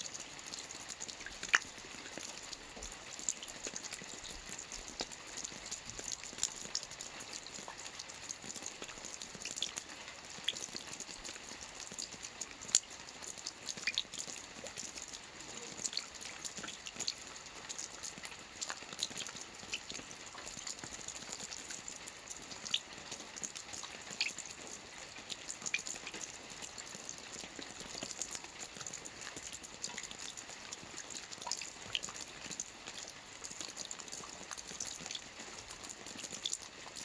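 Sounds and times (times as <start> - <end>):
soft rain on a roof: 0.0 - 37.0.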